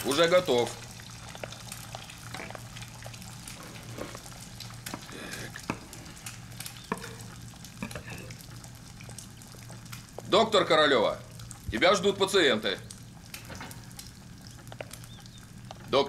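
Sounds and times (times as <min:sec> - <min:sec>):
food sizzling: 0:00.0 - 0:16.0.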